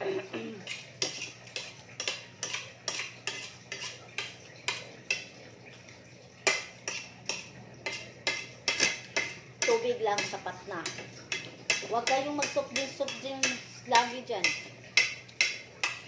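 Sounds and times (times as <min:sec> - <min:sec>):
cutlery clinking on plates: 0:00.6 - 0:05.3, 0:06.4 - 0:16.0.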